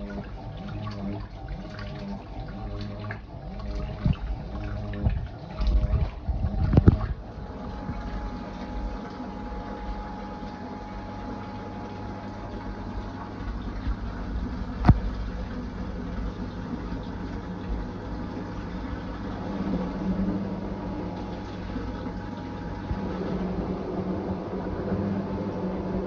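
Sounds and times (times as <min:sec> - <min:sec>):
washing machine motor hum: 0:00.0 - 0:26.0
water sloshing in washing machine: 0:00.0 - 0:26.0.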